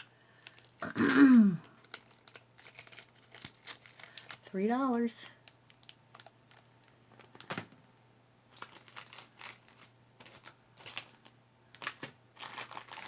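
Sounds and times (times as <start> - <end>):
crinkling rustles: 0.0 - 0.8, 1.5 - 13.0.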